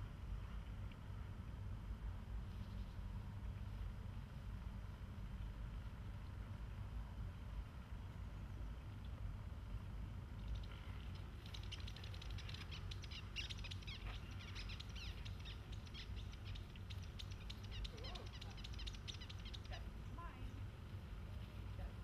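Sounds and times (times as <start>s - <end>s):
steady low rumble: 0.0s - 22.0s
songbirds chirping: 2.0s - 22.0s.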